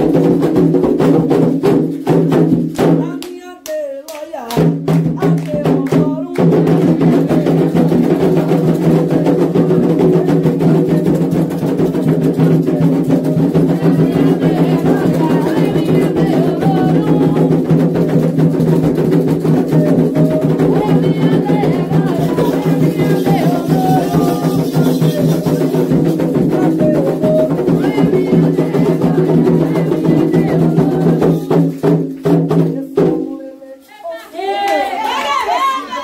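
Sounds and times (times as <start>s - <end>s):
hand drums playing fast rhythm: 0.0s - 33.6s
group of voices singing: 2.8s - 36.0s.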